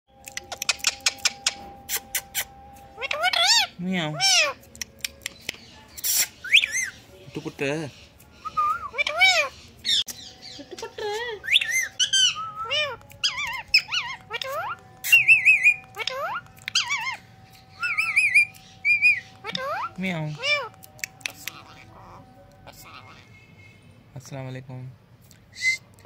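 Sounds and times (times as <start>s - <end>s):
parakeet calling: 0.5s - 4.7s, 5.3s - 23.9s.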